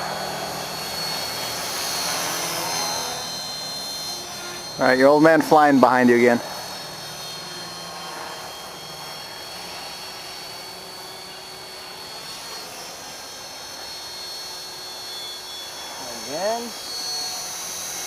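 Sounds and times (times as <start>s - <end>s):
electric motor whine: 0.0s - 18.0s
rotor blades hissing: 0.0s - 18.0s.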